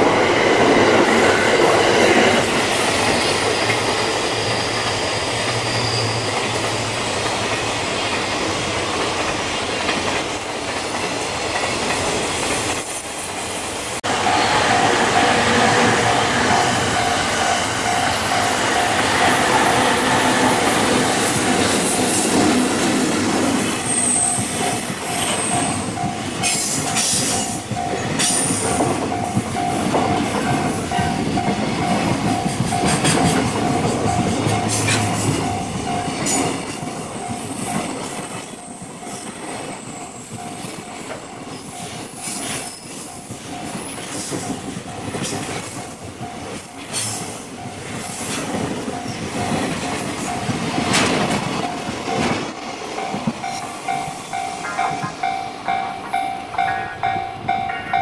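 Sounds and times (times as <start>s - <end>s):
freight train rumbling past: 0.0s - 58.0s
steady locomotive tone: 0.0s - 58.0s
wheels clacking over rail joints: 0.0s - 58.0s.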